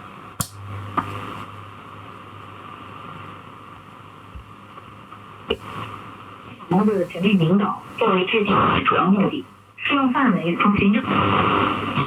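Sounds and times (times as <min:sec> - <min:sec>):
faint hum: 0:00.0 - 0:12.0
radio static hissing: 0:00.0 - 0:12.0.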